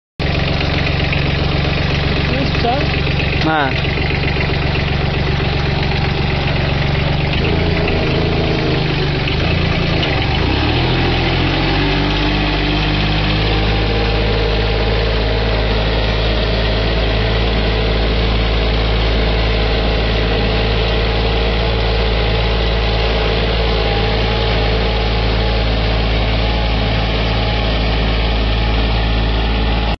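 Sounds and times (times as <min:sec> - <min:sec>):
tractor engine running steadily: 0:00.2 - 0:30.0.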